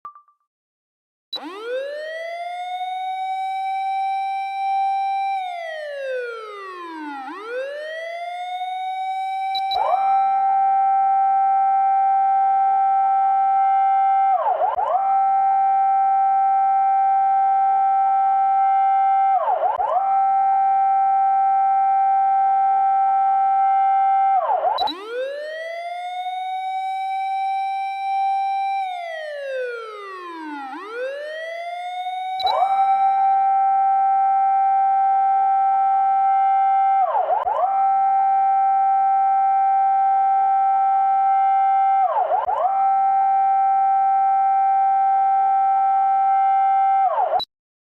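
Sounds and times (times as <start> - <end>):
fire engine siren wailing: 1.4 - 47.4.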